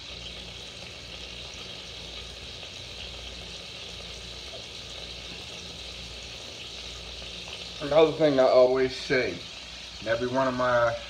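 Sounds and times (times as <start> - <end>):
bacon sizzling in a pan: 0.0 - 11.0.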